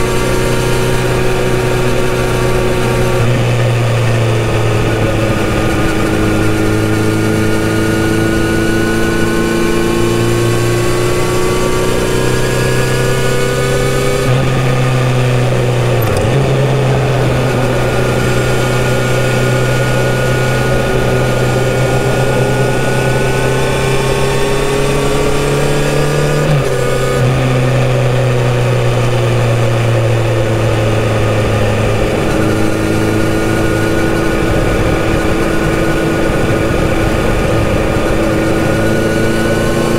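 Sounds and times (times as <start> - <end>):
motorcycle engine cruising in a tunnel: 0.0 - 39.9.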